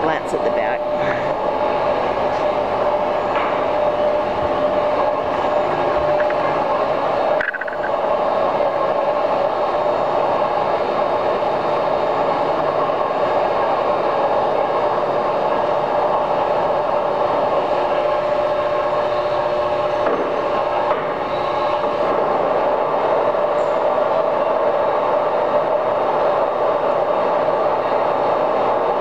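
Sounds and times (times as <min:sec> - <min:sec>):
lathe drive humming and whining: 0:00.0 - 0:29.0.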